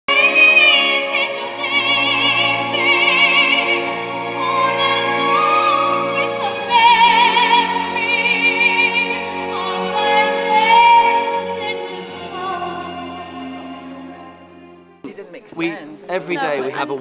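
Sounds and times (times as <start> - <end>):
woman singing with vibrato: 0.0 - 14.6
instrumental accompaniment: 0.1 - 15.6.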